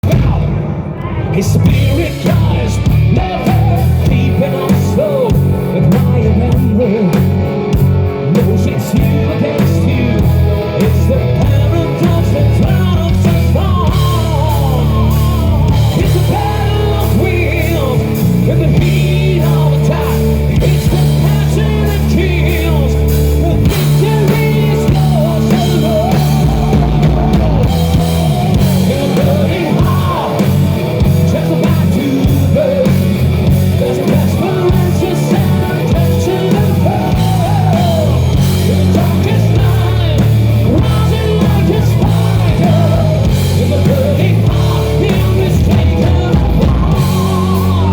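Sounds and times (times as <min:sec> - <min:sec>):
bass guitar: 0:00.0 - 0:47.9
distorted electric guitar: 0:00.0 - 0:47.9
drum kit: 0:00.0 - 0:47.9
person singing: 0:00.0 - 0:47.9.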